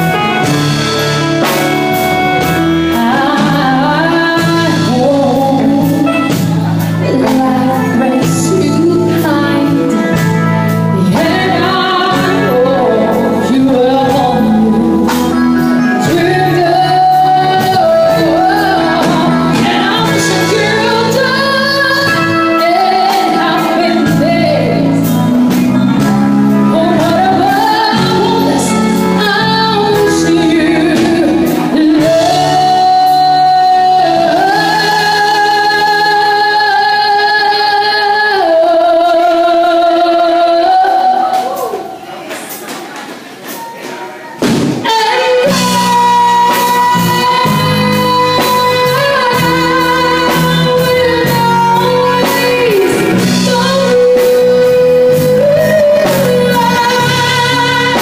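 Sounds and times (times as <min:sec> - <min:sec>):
woman singing: 0:00.0 - 0:42.0, 0:44.8 - 0:58.0
instrumental accompaniment: 0:00.0 - 0:58.0.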